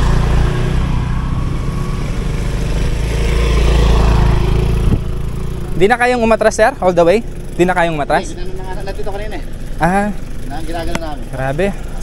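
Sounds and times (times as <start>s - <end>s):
motor scooter engine droning: 0.0s - 12.0s.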